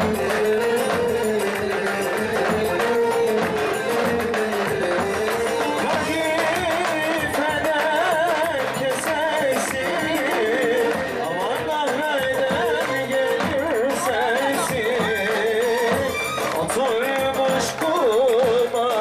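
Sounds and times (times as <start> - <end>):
percussion beat: 0.0 - 19.0
person singing ornamented melody: 0.0 - 19.0.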